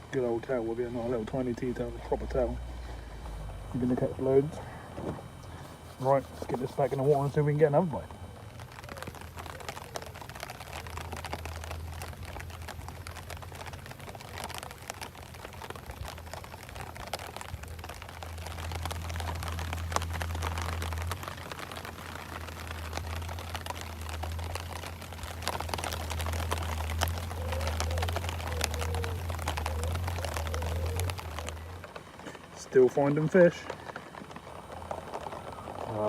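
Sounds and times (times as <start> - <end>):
low hum: 0.0 - 36.0
rain ticking on umbrella: 0.0 - 36.0.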